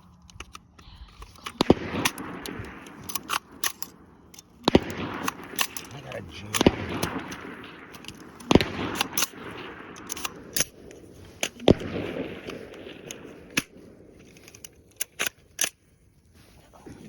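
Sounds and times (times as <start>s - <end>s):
rifle shots: 1.4s - 15.7s.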